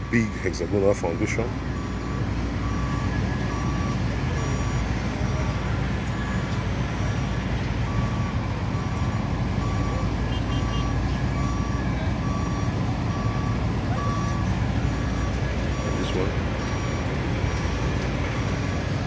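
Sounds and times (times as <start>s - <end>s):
engine rumble: 0.0s - 19.0s
reversing alarm beeping: 0.0s - 19.0s.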